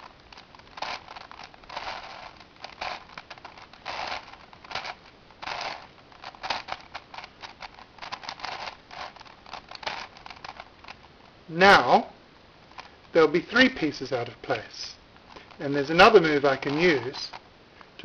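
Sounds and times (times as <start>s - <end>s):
puzzle cube clacking: 0.0s - 12.0s, 12.7s - 18.0s.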